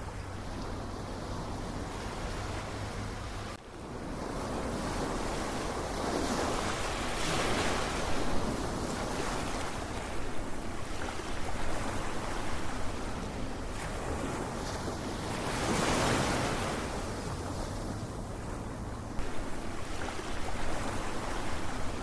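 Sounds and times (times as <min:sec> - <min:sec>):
ocean waves washing in: 0:00.0 - 0:22.0.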